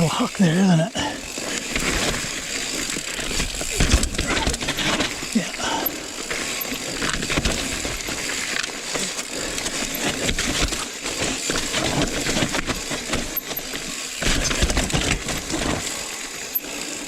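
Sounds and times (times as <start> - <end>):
bike tyres rolling over rocks: 0.0 - 17.0
bike rattling over bumps: 1.0 - 17.0.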